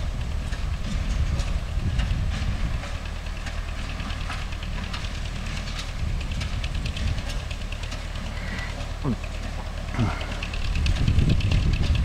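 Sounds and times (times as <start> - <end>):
hay baler clattering: 0.0 - 12.0
tractor diesel engine running: 0.0 - 12.0.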